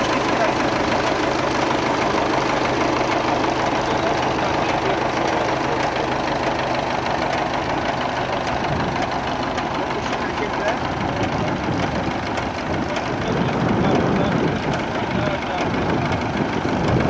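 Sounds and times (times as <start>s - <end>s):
machine working through soil: 0.0s - 17.0s
tractor engine running under load: 0.0s - 17.0s.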